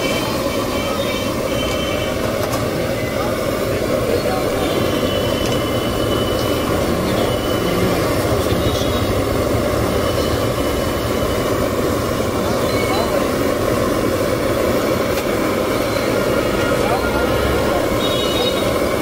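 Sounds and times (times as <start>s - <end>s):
faint voices: 0.0s - 10.6s, 11.3s - 19.0s
busy street-food stall noise: 0.0s - 19.0s.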